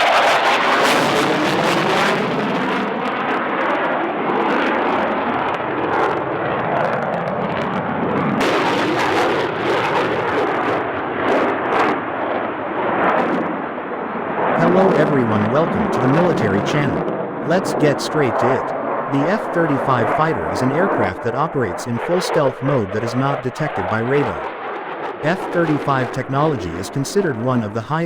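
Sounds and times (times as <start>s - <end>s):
jet engine roaring: 0.0s - 22.7s, 23.3s - 27.7s.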